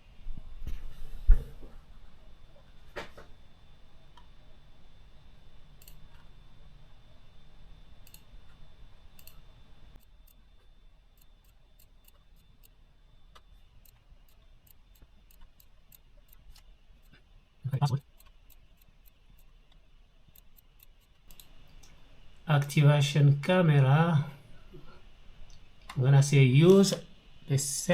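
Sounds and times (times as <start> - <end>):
low hum: 0.0 - 27.9.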